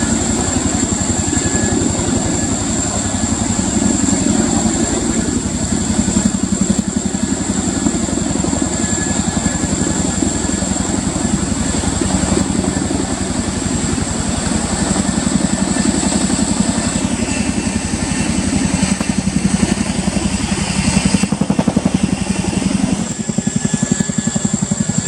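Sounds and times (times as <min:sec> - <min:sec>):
helicopter rotor beat: 0:00.0 - 0:25.0
high whine: 0:00.0 - 0:25.0.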